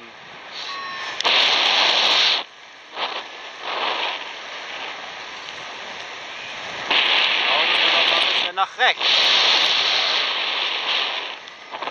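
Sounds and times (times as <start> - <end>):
wind noise on microphone: 0.2 - 11.9.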